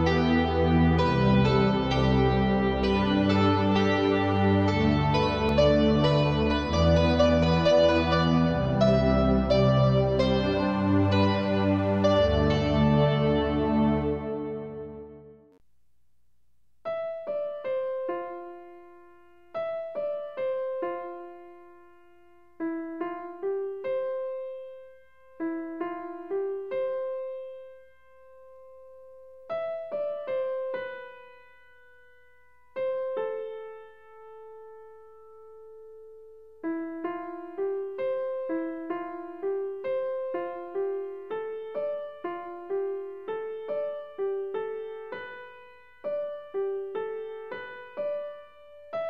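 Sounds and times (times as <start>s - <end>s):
slow piano melody: 0.0s - 15.6s, 16.9s - 49.0s.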